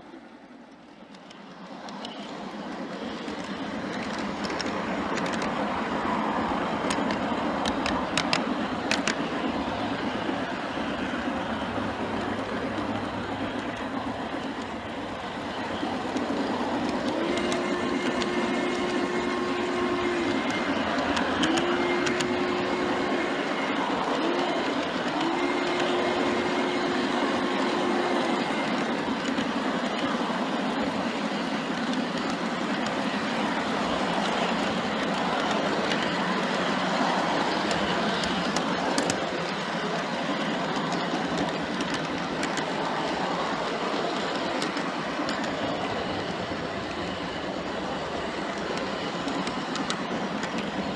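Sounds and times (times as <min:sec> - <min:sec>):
model train rolling rumble: 0:00.0 - 0:50.9
wheels clicking over rail joints: 0:00.0 - 0:50.9.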